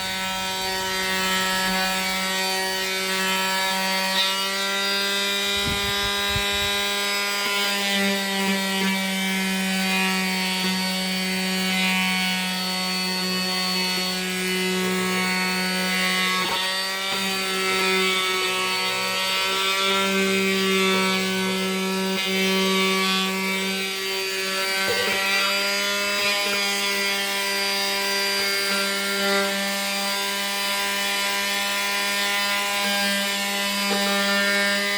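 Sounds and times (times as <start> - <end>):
oscillating multi-tool buzzing: 0.0 - 34.9.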